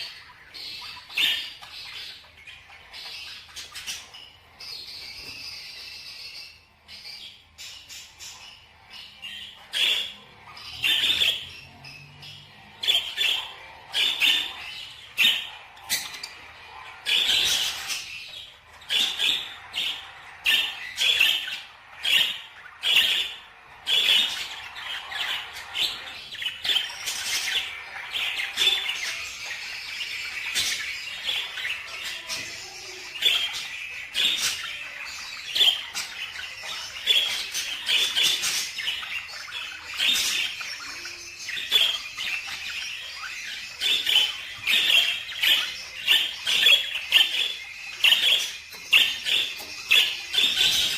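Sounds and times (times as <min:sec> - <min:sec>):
cage birds chirping and squawking: 0:00.0 - 0:50.9.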